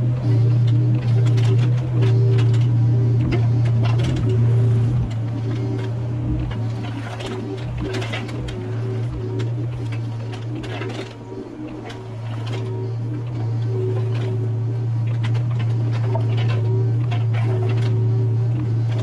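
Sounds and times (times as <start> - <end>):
excavator engine running: 0.0 - 19.0
hydraulic whine: 0.0 - 19.0
machine knocks and scrapes: 0.0 - 19.0.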